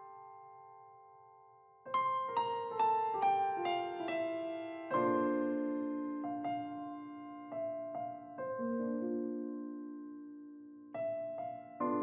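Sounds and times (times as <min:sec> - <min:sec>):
piano music: 0:01.9 - 0:12.0.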